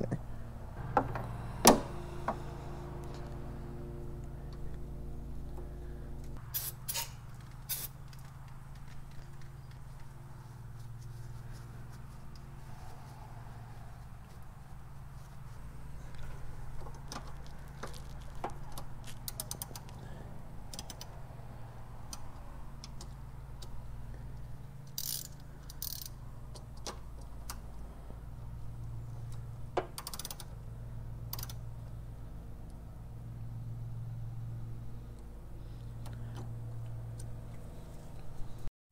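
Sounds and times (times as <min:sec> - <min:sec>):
steady low hum: 0:00.0 - 0:38.7.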